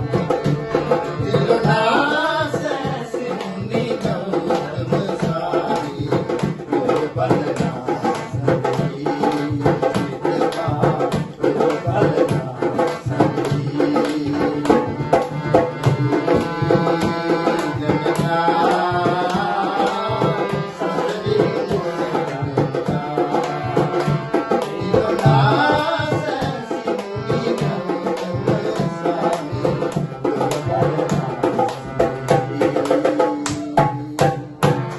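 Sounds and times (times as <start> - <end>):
hand drum playing quick rhythm: 0.0 - 34.9.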